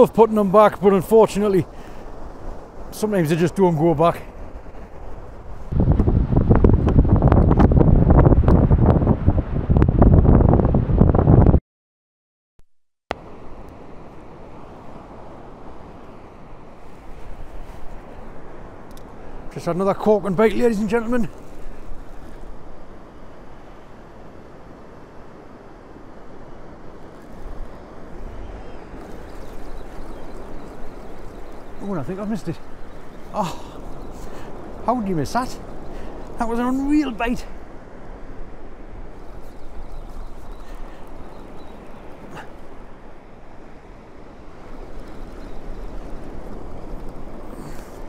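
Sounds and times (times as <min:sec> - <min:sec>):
surf on a beach: 0:00.0 - 0:11.5, 0:13.1 - 0:48.0
wind buffeting microphone: 0:00.0 - 0:11.6, 0:14.3 - 0:48.0.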